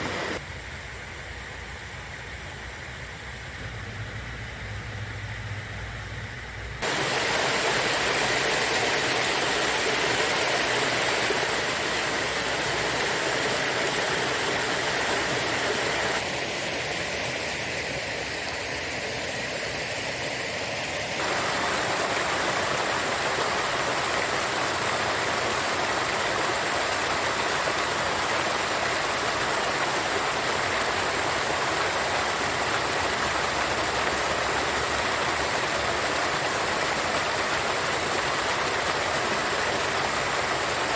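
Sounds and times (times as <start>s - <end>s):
river water rushing over stones: 0.0s - 0.4s, 6.8s - 40.9s.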